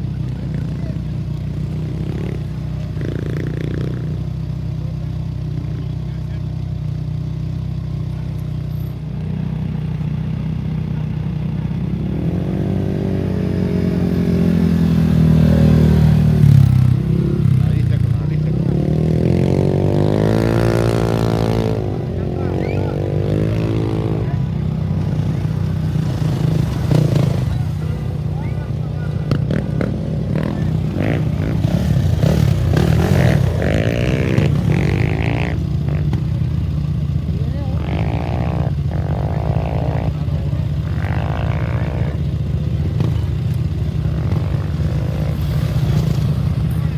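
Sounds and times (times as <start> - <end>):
race vehicle engine: 0.0 - 46.9.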